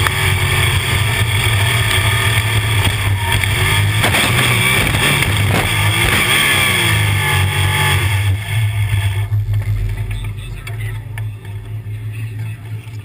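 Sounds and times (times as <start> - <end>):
race car engines passing by: 0.0 - 13.0.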